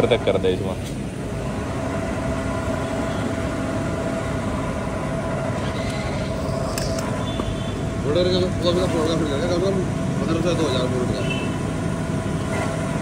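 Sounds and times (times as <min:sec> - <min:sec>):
petrol pump running: 0:01.1 - 0:13.0.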